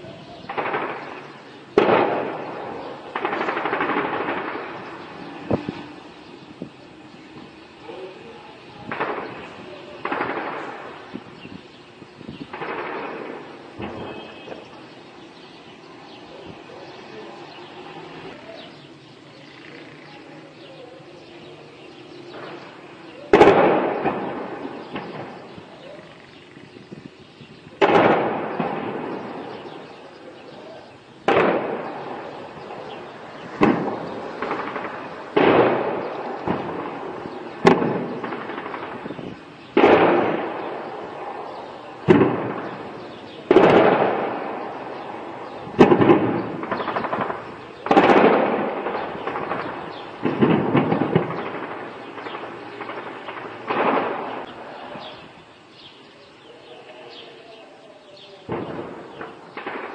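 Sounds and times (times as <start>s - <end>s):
shelling blasts with echo: 0.0s - 18.8s, 21.3s - 56.7s, 58.4s - 59.9s.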